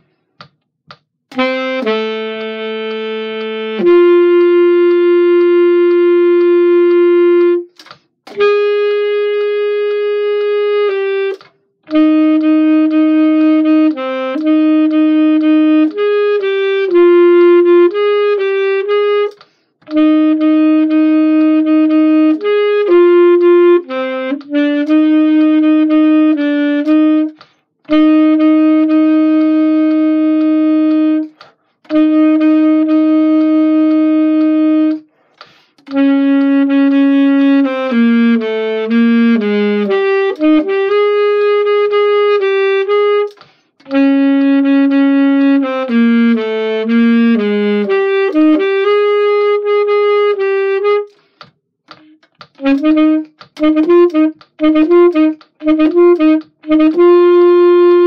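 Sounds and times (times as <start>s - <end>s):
solo saxophone melody: 1.3s - 58.0s.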